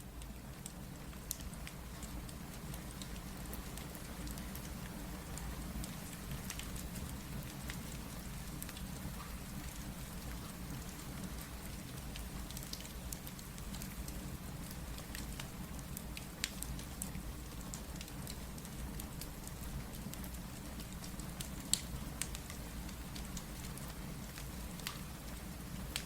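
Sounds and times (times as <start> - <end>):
steady rain: 0.0 - 26.0
wood fire crackling and popping: 0.2 - 26.0.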